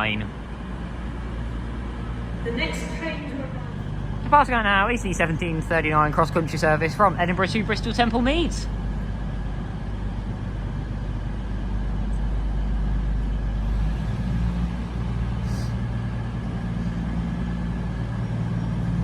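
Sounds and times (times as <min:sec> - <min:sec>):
diesel train engines droning: 0:00.0 - 0:19.0.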